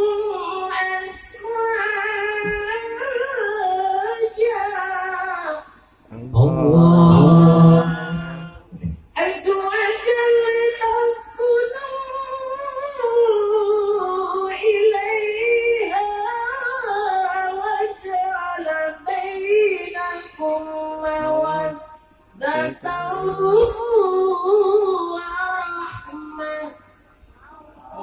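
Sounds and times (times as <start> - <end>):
person singing into a microphone: 0.0 - 28.0.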